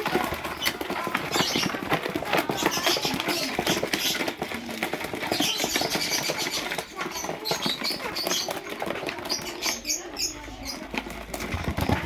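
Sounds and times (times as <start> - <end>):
lovebirds chattering: 0.0 - 12.0.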